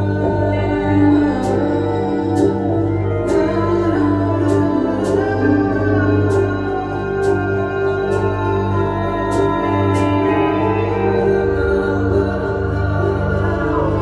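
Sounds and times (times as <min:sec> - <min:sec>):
ambient music drone: 0:00.0 - 0:14.0.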